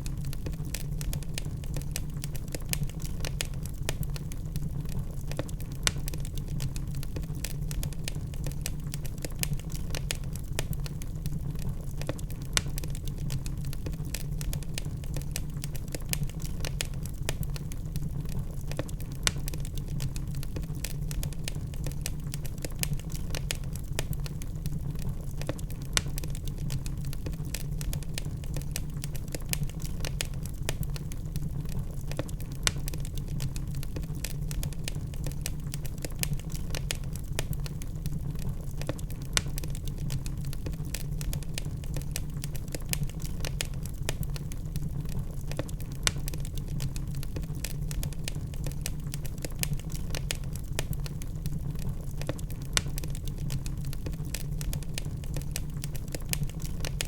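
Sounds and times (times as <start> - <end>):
fire low rumble: 0.0 - 57.0
fire popping: 0.0 - 57.0
logs crackling: 0.0 - 57.0.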